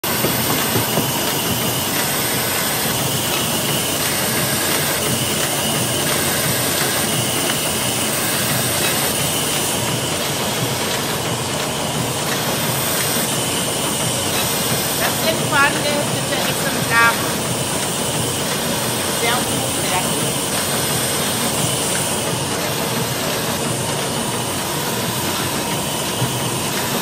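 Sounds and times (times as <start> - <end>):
book-sewing machine running: 0.0 - 27.0.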